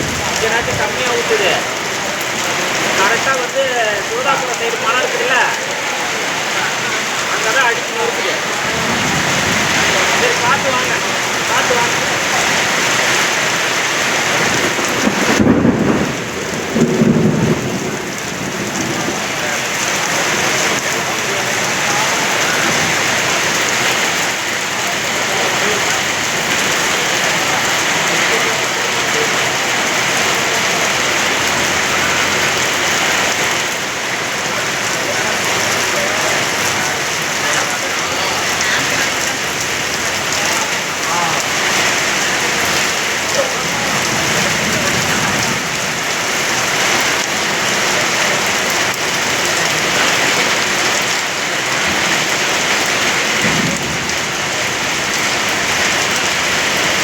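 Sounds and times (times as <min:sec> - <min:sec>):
rain pouring down: 0:00.0 - 0:57.0.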